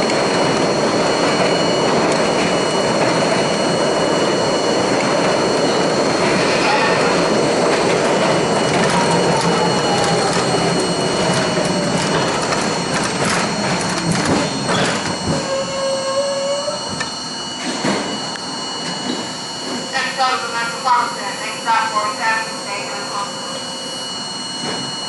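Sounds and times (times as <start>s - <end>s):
rail and wheel noise: 0.0s - 25.0s
train motor whine: 0.0s - 25.0s.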